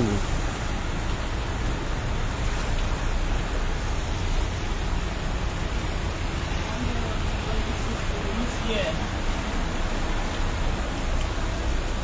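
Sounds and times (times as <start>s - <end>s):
traffic hiss and rumble: 0.0s - 12.0s.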